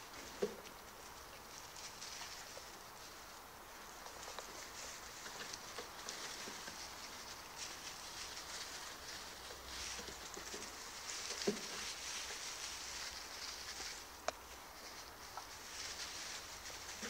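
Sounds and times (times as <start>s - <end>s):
puppies rustling in straw: 0.0s - 17.0s.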